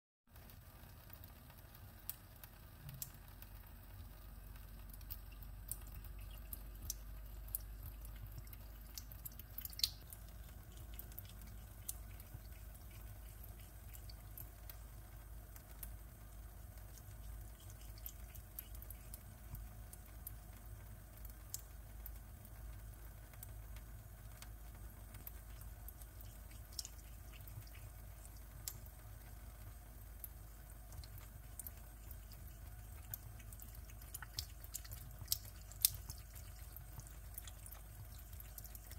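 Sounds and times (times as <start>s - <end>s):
water dripping: 0.3s - 38.9s
water running from a tap: 0.4s - 38.9s
cat lapping water: 1.2s - 38.9s.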